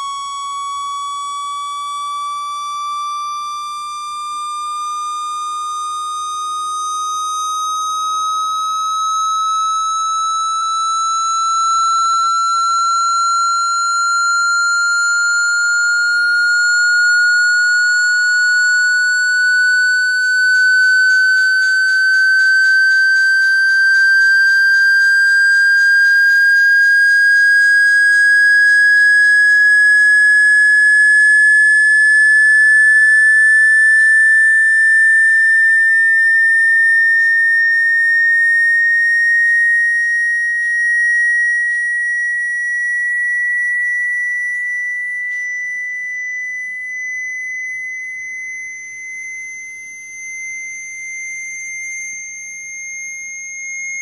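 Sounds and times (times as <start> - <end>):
rising electronic sine tone: 0.0 - 54.0.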